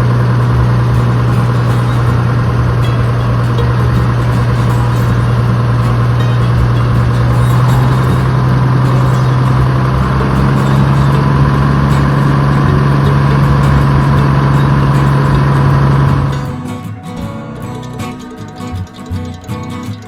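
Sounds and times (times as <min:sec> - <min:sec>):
boat diesel engine droning: 0:00.0 - 0:20.0.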